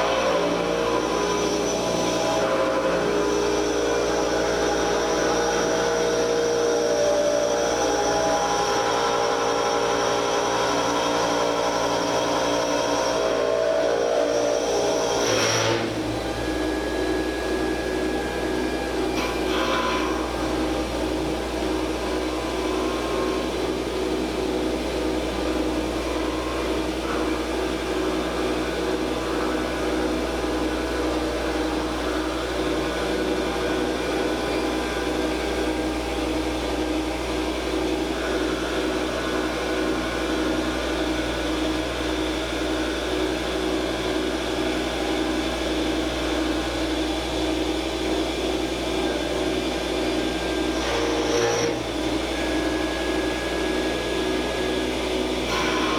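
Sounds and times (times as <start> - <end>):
cutter shaving spinning wood: 0.0 - 55.9
wood lathe motor hum: 0.0 - 55.9.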